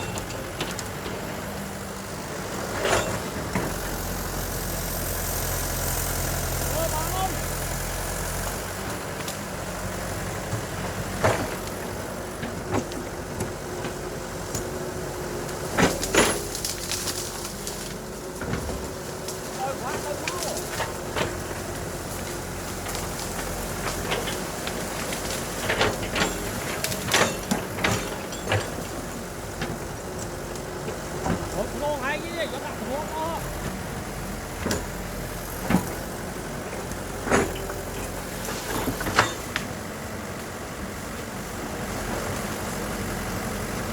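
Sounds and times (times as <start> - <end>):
heavy machine engine running: 0.0 - 43.9.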